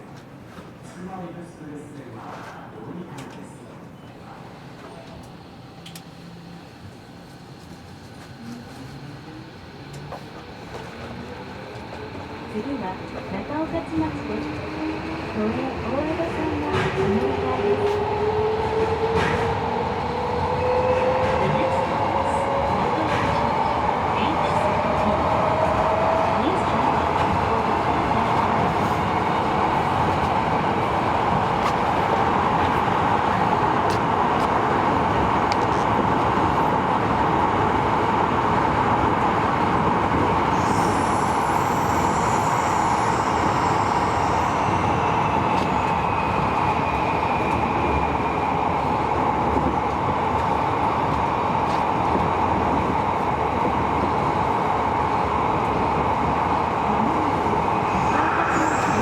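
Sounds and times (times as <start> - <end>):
train wheels and motors rumbling: 4.6 - 59.0.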